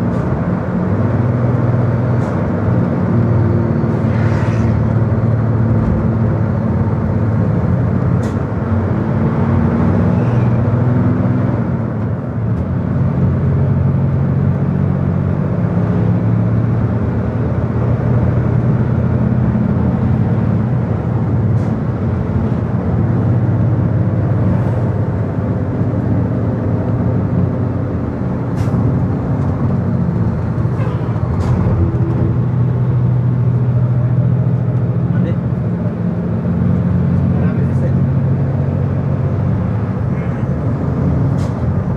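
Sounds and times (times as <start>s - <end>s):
car engine and tyre noise: 0.0s - 41.9s.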